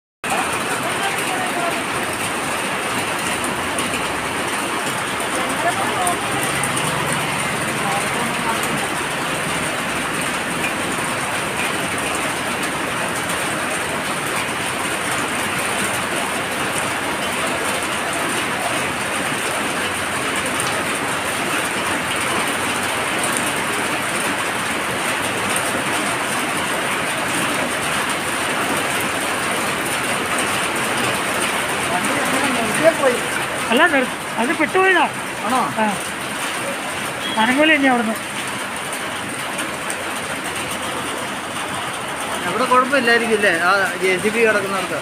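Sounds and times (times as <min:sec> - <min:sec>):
heavy rain pouring: 0:00.2 - 0:45.0.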